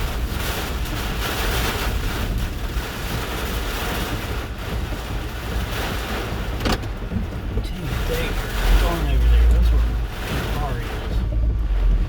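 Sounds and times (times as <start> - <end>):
hurricane wind buffeting vehicle: 0.0 - 12.0.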